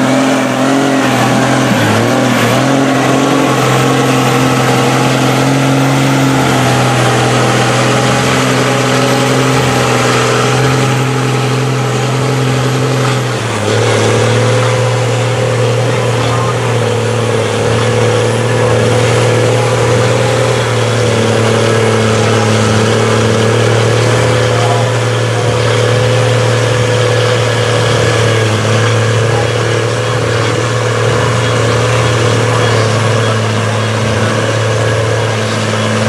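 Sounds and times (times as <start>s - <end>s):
diesel truck engine revving hard: 0.0s - 36.0s
tires churning through mud: 0.0s - 36.0s.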